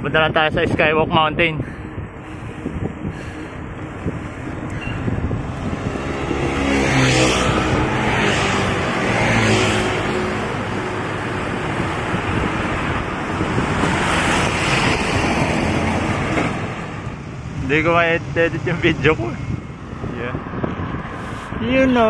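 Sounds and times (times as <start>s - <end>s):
rushing wind on microphone: 0.0s - 22.0s
motor vehicle passing: 1.6s - 22.0s.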